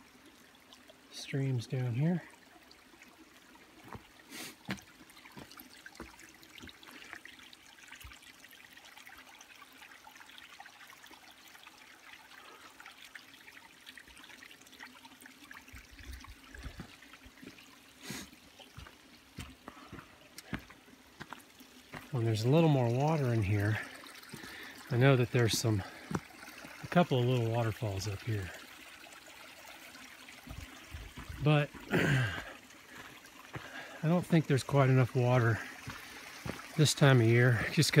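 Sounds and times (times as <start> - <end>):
stream trickling: 0.0 - 38.0.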